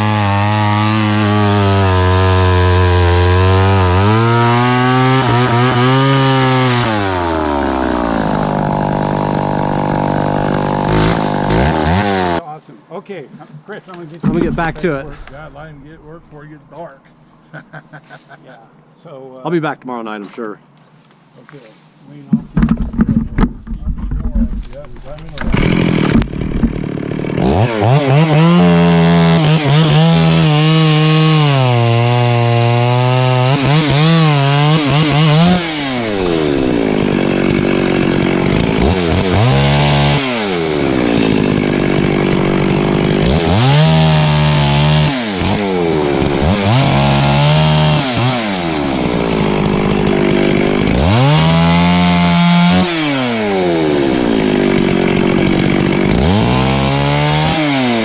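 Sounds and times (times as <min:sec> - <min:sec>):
chainsaw cutting wood: 0:00.0 - 0:12.4, 0:22.5 - 0:58.0.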